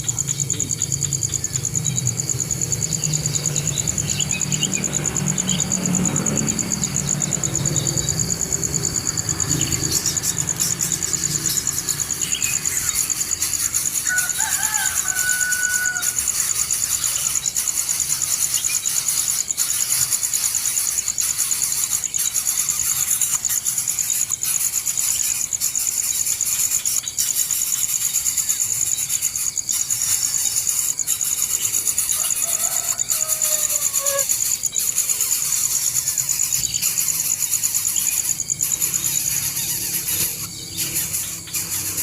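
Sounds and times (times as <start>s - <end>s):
insects buzzing: 0.0s - 42.0s.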